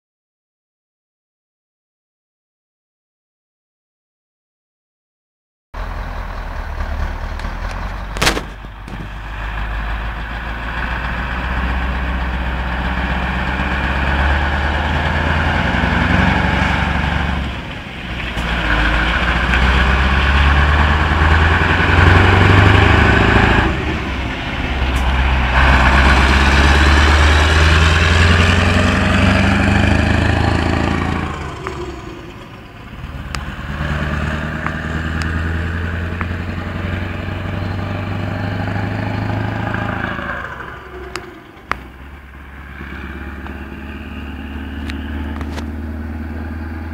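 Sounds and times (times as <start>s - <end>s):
diesel truck engine running: 5.8s - 46.9s.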